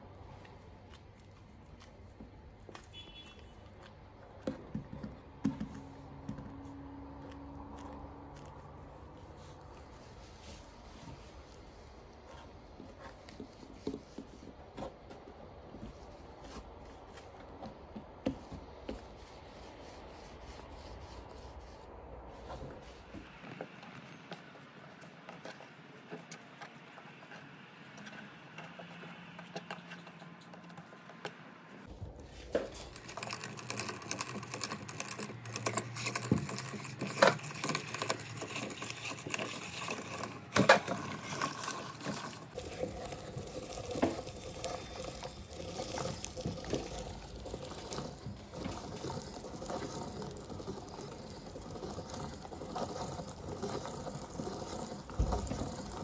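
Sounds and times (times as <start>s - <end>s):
slime squelching through a grinder: 0.0s - 56.0s.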